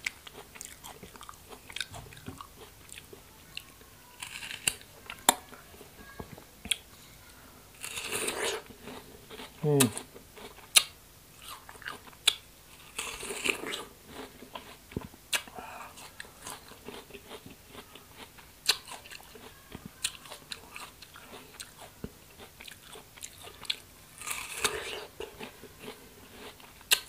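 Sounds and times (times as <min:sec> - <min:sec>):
crunchy apple bite and chewing: 0:00.0 - 0:05.4, 0:07.8 - 0:27.0.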